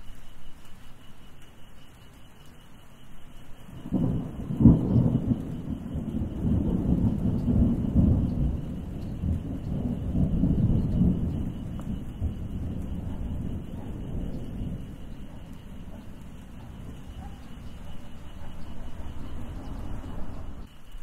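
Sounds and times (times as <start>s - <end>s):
rain hiss: 0.0s - 21.0s
thunder clap and rumble: 3.7s - 20.7s.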